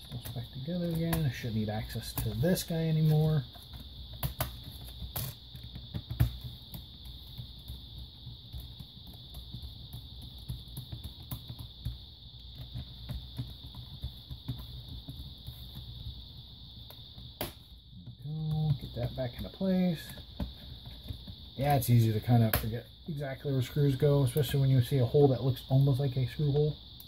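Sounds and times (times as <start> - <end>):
high-pitched hiss: 0.0 - 27.0.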